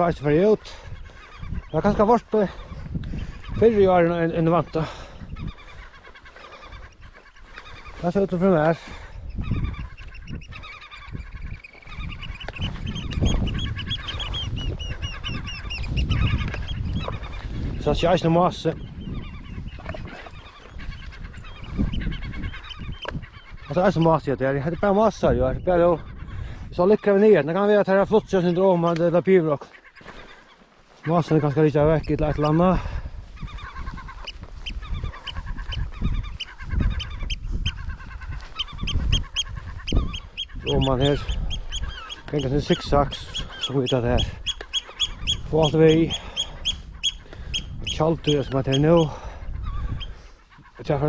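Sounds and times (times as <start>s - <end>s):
wind rumble on microphone: 0.0s - 28.7s, 31.3s - 51.0s
gulls calling: 0.0s - 51.0s.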